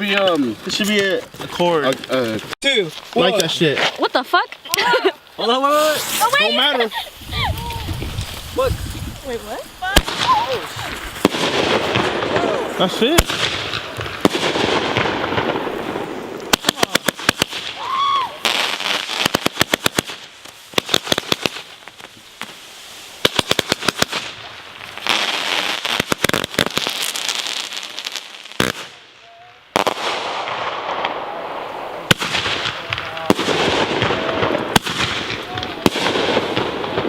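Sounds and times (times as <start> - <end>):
firework cracks and bangs: 0.0 - 37.0
firework hissing and crackling: 0.0 - 37.0.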